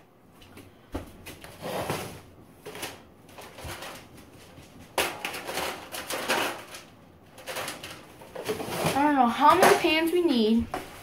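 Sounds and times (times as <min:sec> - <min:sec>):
aluminium foil pans crinkling: 0:01.2 - 0:11.0.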